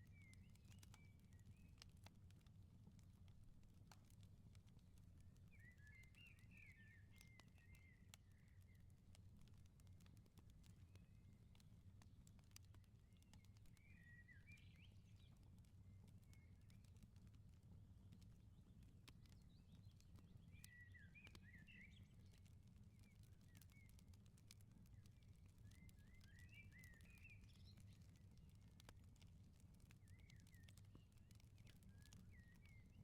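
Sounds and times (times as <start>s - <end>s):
wood fire crackling: 0.4s - 33.0s.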